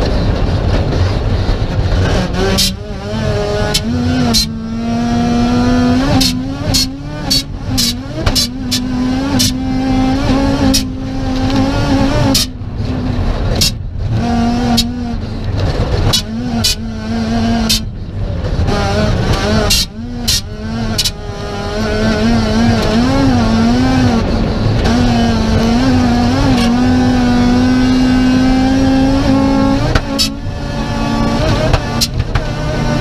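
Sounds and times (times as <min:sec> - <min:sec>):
rally car engine at high revs: 0:00.0 - 0:33.0
sharp exhaust cracks: 0:00.0 - 0:33.0.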